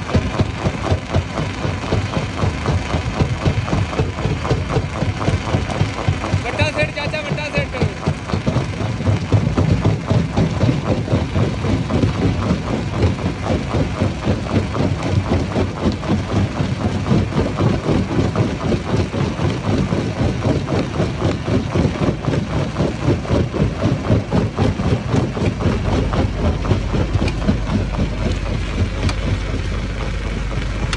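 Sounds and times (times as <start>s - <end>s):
stone crusher machinery pulsing din: 0.0s - 30.9s.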